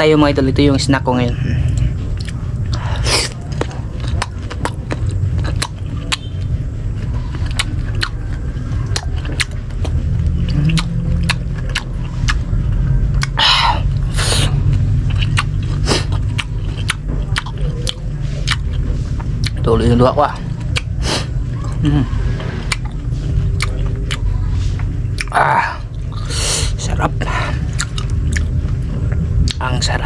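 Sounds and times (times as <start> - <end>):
steady low rumble: 0.0 - 30.0
crunchy chewing: 1.5 - 30.0.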